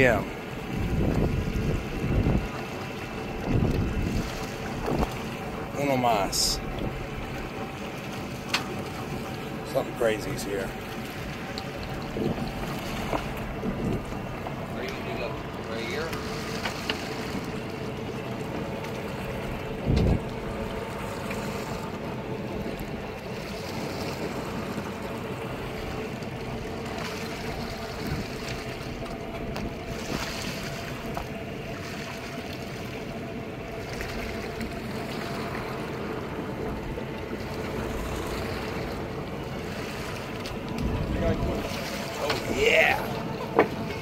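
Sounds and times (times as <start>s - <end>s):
boat engine running: 0.0s - 44.0s
water washing along hull: 0.0s - 44.0s
wind: 0.0s - 44.0s.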